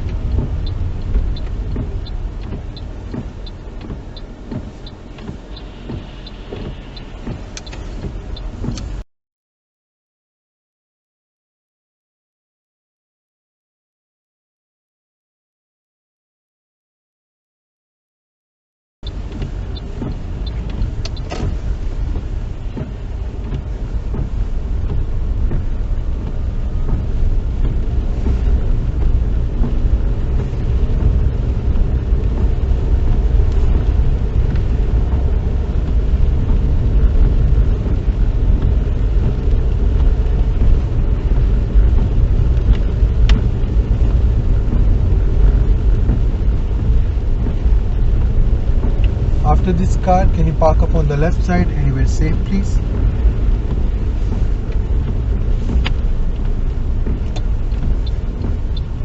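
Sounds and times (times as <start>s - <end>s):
engine and tyre rumble: 0.0s - 9.1s, 19.0s - 59.0s.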